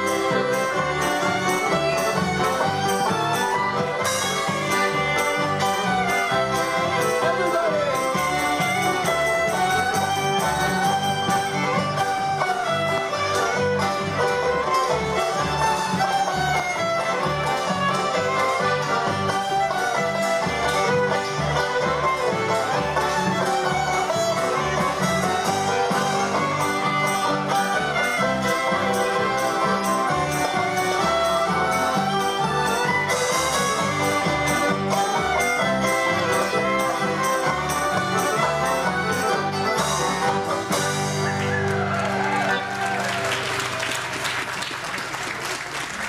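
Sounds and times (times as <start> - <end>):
accordions: 0.0 - 43.5
fiddles playing melody: 0.0 - 44.0.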